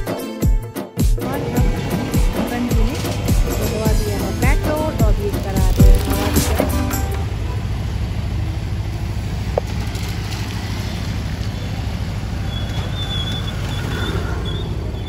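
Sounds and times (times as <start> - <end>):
vehicle engine and road noise: 1.2 - 15.0.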